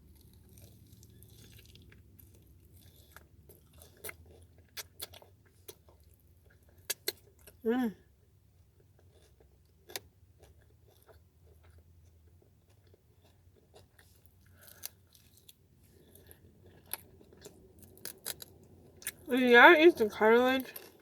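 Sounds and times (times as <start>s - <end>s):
chewing chicken wing: 0.0s - 7.6s, 8.8s - 19.3s.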